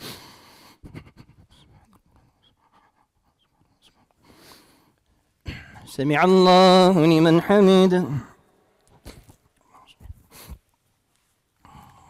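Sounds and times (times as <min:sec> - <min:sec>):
soft hiss: 0:01.6 - 0:12.0.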